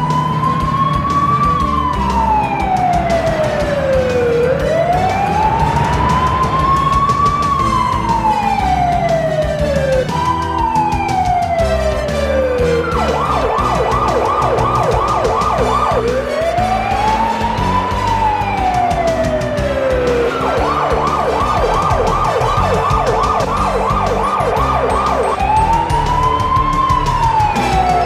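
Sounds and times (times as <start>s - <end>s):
music playing: 0.0s - 28.0s
police siren yelp and wail: 0.0s - 28.0s.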